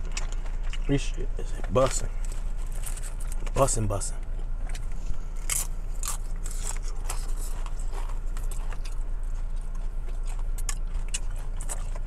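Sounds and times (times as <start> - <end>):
person chewing food: 0.0 - 3.6, 4.2 - 12.0
low car cabin hum: 0.0 - 12.0.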